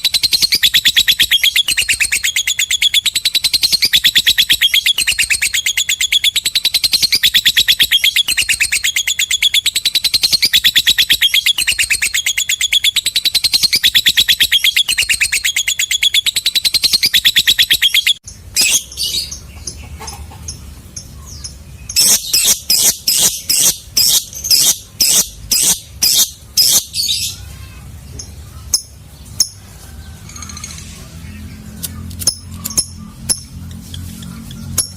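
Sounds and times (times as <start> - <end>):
shrill bird chirps: 0.0 - 20.1, 21.0 - 34.9
lovebird chattering trill: 0.0 - 29.6, 31.7 - 34.9.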